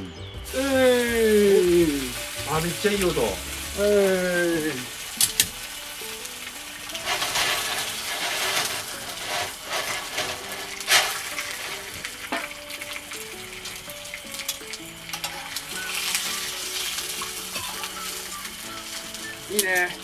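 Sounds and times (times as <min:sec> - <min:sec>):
fat popping and crackling: 0:00.0 - 0:20.0
meat sizzling in a skillet: 0:00.4 - 0:20.0.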